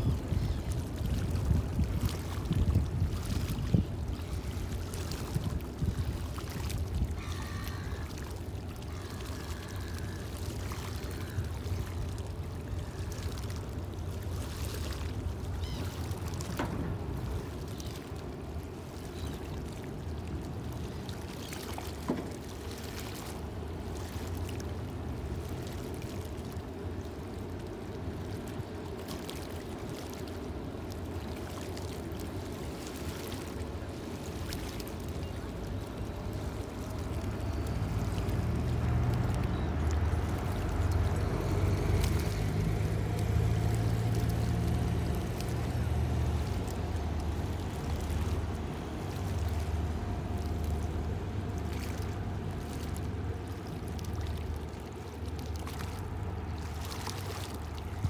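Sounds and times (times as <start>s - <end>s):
water washing: 0.0s - 58.0s.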